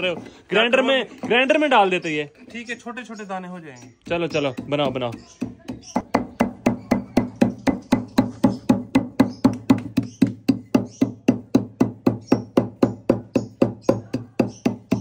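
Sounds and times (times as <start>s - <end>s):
pestle pounding grain in mortar: 2.4s - 15.0s.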